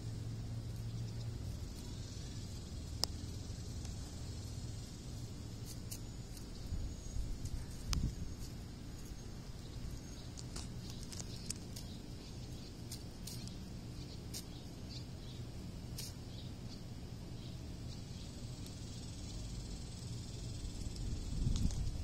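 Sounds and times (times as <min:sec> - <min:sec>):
steady low rumble: 0:00.0 - 0:22.0
high-pitched ticks and chirps: 0:00.2 - 0:15.4, 0:17.4 - 0:22.0.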